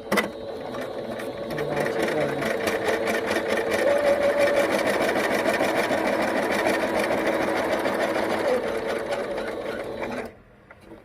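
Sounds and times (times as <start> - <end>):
sewing machine running: 0.0 - 10.3.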